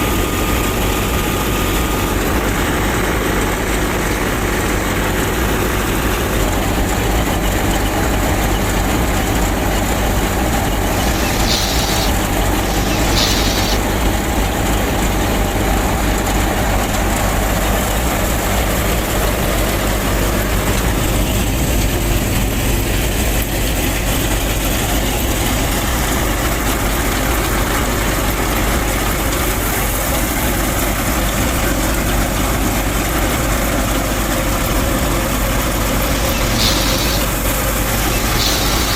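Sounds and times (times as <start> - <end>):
engine running with low hum: 0.0 - 38.9.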